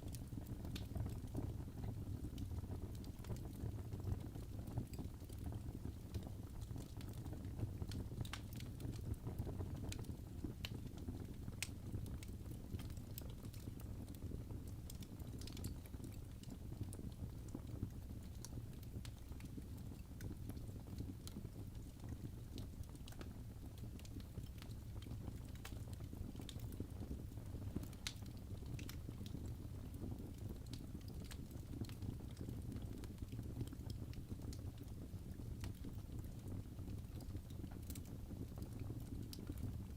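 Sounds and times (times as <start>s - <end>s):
fire crackles and pops: 0.0s - 39.9s
fire rumbling in a fireplace: 0.0s - 39.9s.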